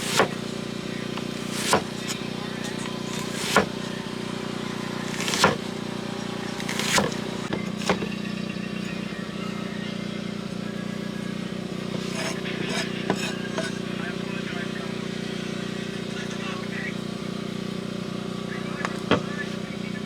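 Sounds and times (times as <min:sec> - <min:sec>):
motor hum: 0:00.0 - 0:20.0.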